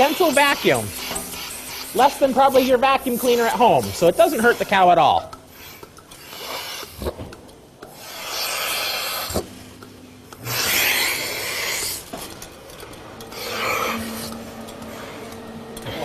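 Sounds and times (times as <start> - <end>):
milking machine teat cups hissing: 0.0 - 16.0.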